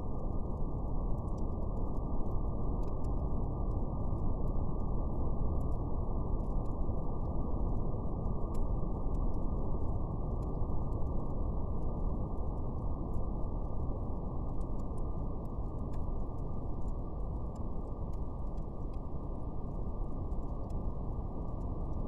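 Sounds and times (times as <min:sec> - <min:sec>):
brown noise rumble: 0:00.0 - 0:22.0
fire crackling: 0:00.0 - 0:22.0.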